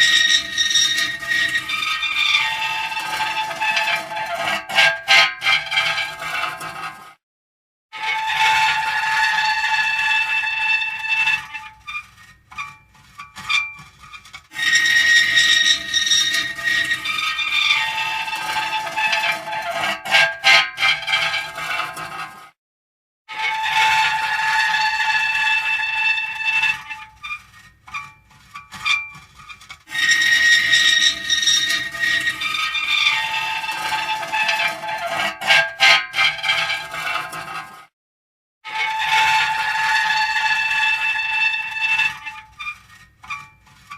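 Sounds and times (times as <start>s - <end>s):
metal creaking and squealing: 0.0s - 7.0s, 8.0s - 22.4s, 23.3s - 37.9s, 38.7s - 43.9s.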